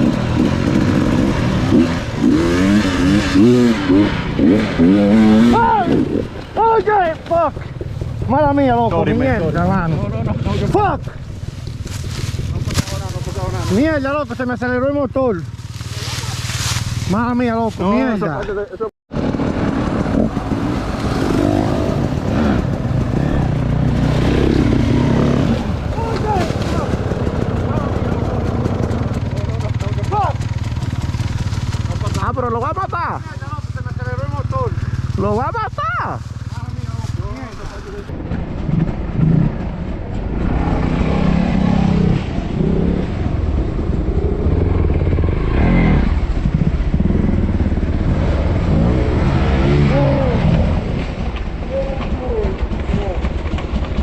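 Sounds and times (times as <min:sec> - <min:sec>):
dirt bike engine revving: 0:00.0 - 0:18.3, 0:19.1 - 0:54.0.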